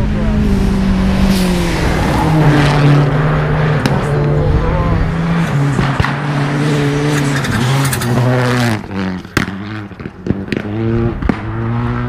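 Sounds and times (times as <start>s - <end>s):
rally car engine running hard: 0.0s - 12.0s.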